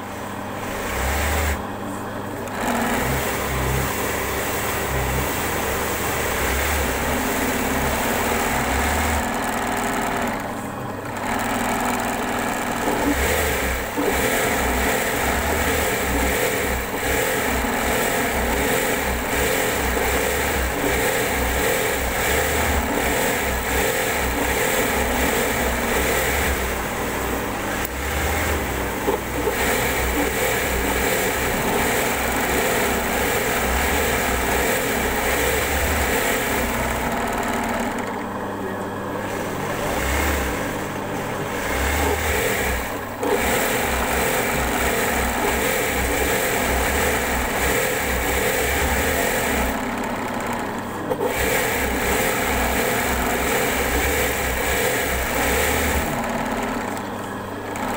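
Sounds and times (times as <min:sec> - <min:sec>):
sewing machine running: 0:00.0 - 0:57.9.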